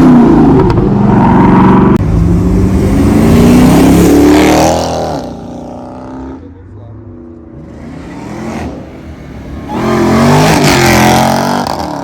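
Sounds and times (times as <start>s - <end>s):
car engine accelerating hard: 0.0s - 6.4s, 7.6s - 12.0s.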